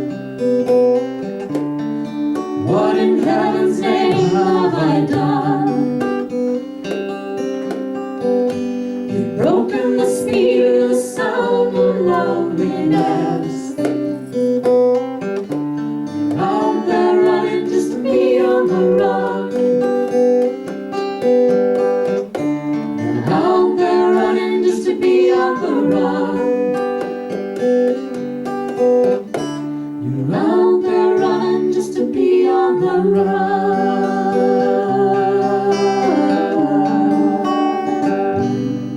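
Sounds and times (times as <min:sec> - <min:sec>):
acoustic guitar strumming: 0:00.0 - 0:38.9
country-folk instrumental music: 0:00.0 - 0:38.9.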